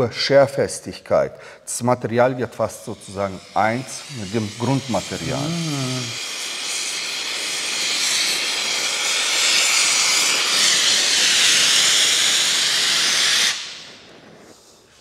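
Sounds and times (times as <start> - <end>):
torch flame hissing: 2.6 - 15.0.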